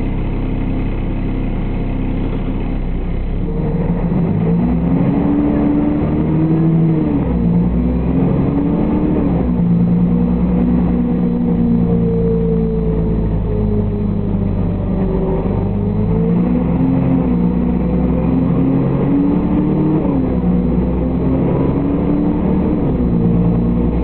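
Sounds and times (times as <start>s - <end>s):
bus engine accelerating: 0.0s - 24.0s.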